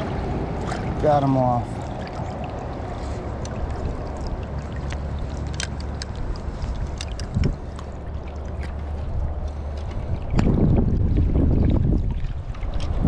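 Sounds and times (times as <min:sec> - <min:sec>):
low steady rumble: 0:00.0 - 0:13.0
river water running and lapping: 0:00.0 - 0:13.0
small splashes and drips: 0:00.0 - 0:13.0.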